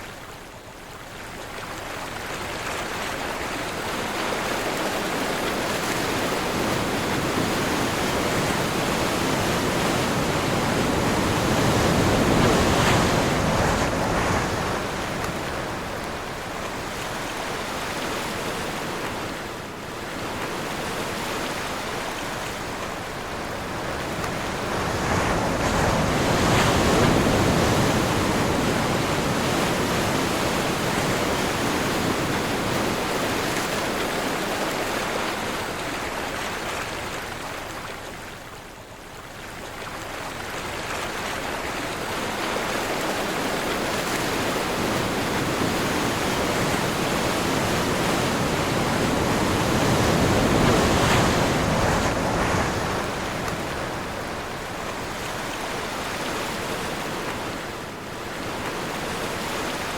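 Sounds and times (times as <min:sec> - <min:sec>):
ocean surf washing: 0:01.6 - 0:39.0, 0:39.8 - 0:59.9.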